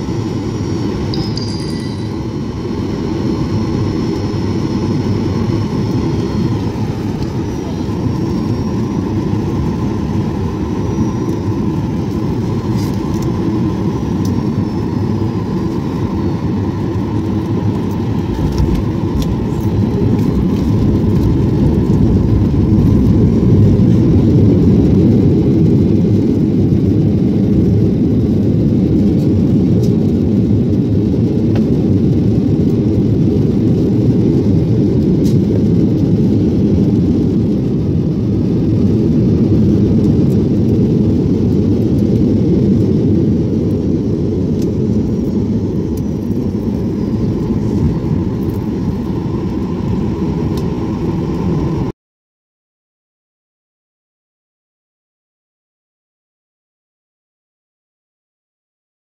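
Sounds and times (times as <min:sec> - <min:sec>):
airliner engines and rushing air: 0:00.0 - 0:52.0.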